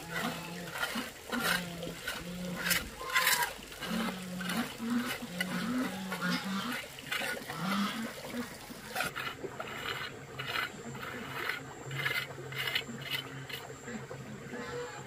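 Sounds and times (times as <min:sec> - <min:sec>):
trickle of running water: 0:00.0 - 0:13.7
trowel scraping wet mortar: 0:00.0 - 0:14.0.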